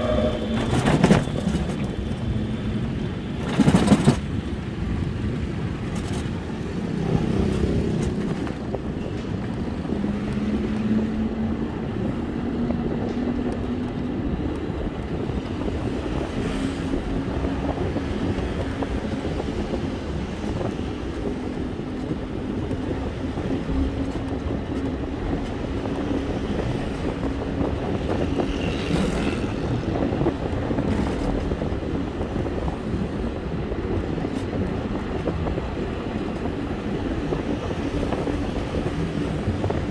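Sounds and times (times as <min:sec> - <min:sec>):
road and wind rumble: 0:00.0 - 0:39.9.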